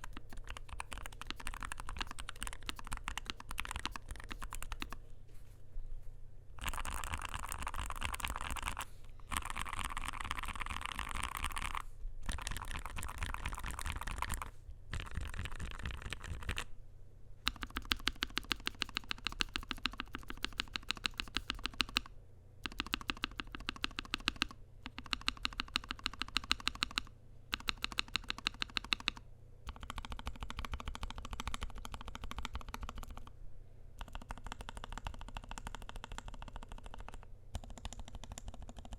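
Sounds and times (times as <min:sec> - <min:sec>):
mechanical keyboard typing: 0:00.0 - 0:05.0, 0:06.6 - 0:16.7, 0:17.4 - 0:33.3, 0:34.0 - 0:38.9.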